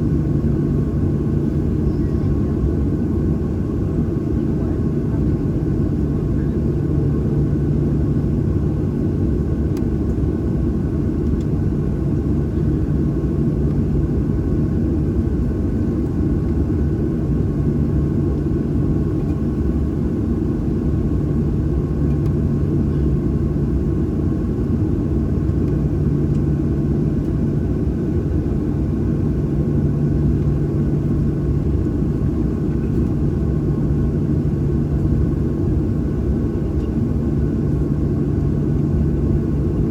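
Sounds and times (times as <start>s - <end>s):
jet engines idling in cabin: 0.0s - 39.9s.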